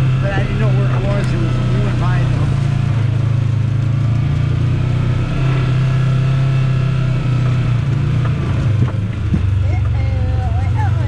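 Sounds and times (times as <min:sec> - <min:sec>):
utility vehicle engine droning: 0:00.0 - 0:11.0.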